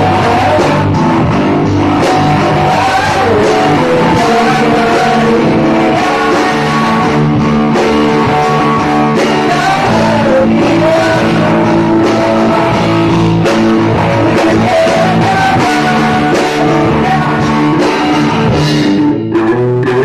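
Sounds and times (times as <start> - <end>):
drum kit: 0.0 - 20.0
electric guitars playing chords: 0.0 - 20.0
person singing: 0.0 - 20.0.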